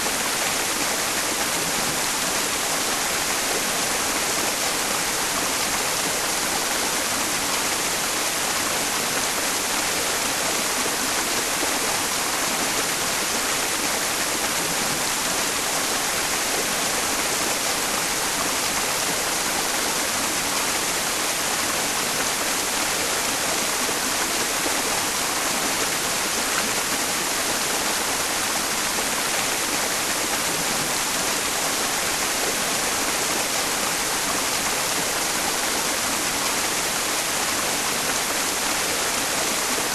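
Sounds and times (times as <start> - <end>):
stream flowing: 0.0 - 39.9
white noise hiss: 0.0 - 39.9.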